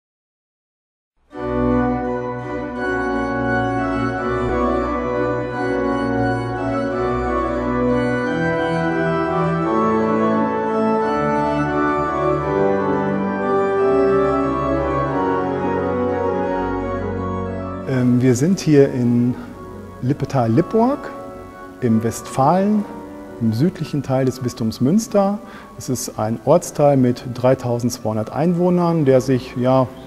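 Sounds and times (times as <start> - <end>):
church organ playing chords: 1.3 - 30.0.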